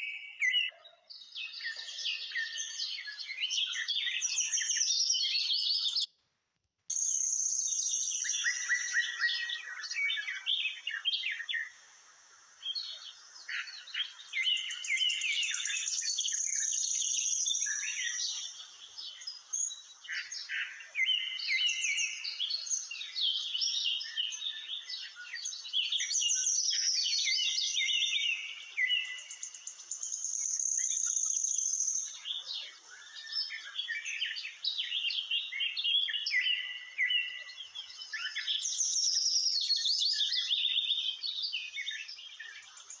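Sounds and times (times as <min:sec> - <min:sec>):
small birds chirping: 0:00.0 - 0:06.2, 0:06.9 - 0:43.0.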